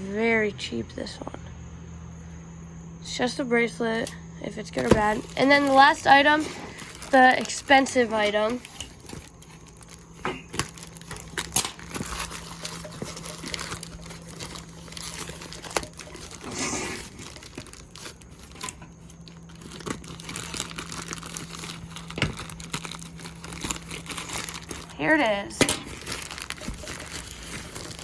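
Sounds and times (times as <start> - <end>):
packaging crinkling: 4.6 - 28.0
small clicks and crackles: 4.8 - 28.0.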